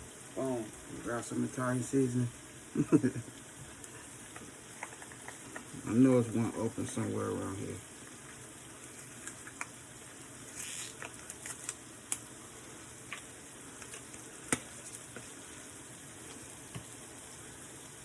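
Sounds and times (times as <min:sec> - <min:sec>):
mushrooms sizzling in a frying pan: 0:00.0 - 0:18.0.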